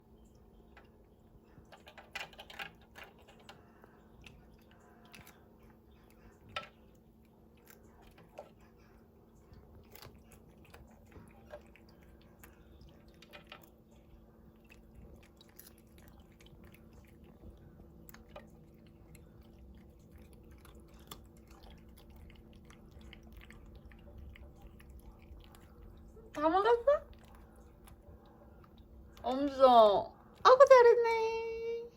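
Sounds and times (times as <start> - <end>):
crunching and chewing: 0.0 - 30.4.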